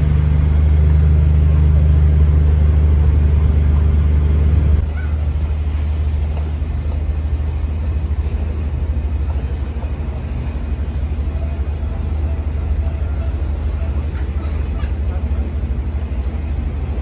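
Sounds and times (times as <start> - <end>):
city hum: 0.0 - 17.0
low rumble: 0.0 - 17.0.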